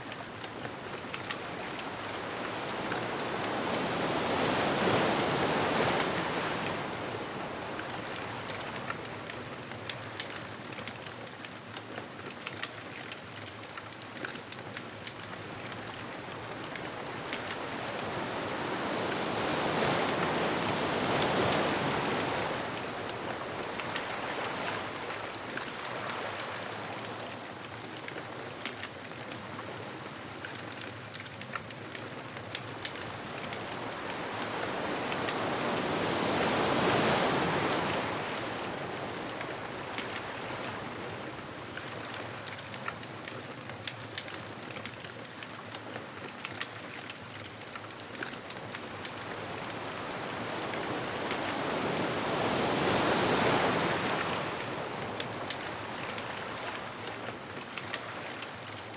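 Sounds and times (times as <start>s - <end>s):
ocean waves washing ashore: 0.0s - 58.9s
bonfire crackling: 0.1s - 4.3s, 5.7s - 58.9s.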